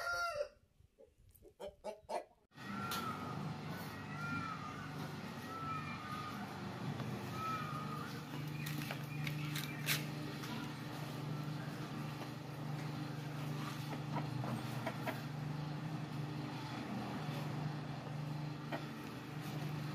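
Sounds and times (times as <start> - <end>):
low mechanical motor hum: 2.5 - 19.9.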